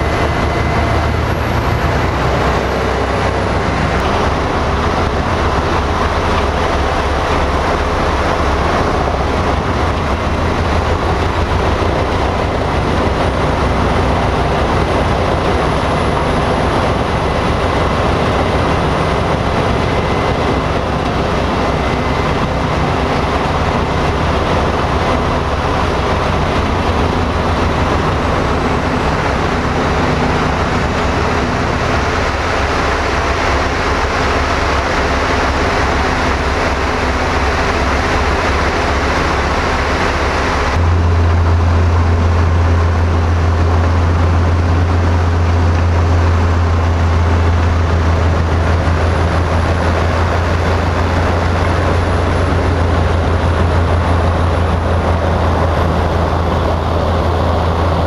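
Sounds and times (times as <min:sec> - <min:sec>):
low diesel engine hum: 0:00.0 - 0:58.0
wood chipper running: 0:00.0 - 0:58.0.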